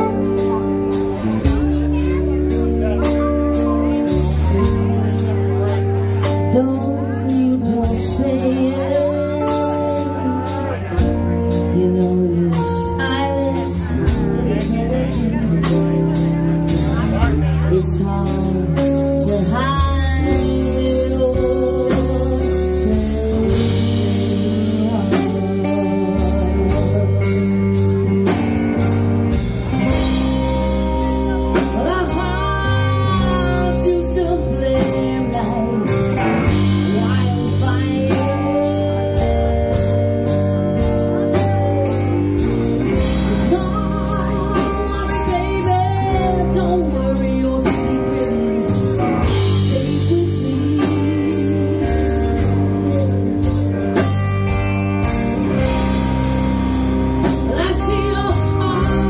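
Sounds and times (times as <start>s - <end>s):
bass guitar: 0.0s - 59.0s
electric guitar: 0.0s - 59.0s
keyboard: 0.0s - 59.0s
woman singing: 5.7s - 16.3s, 17.0s - 54.4s, 55.1s - 59.0s.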